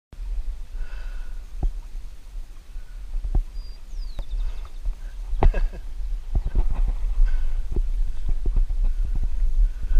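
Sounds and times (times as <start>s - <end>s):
low rumble: 0.2s - 9.9s
birds chirping: 0.5s - 9.9s.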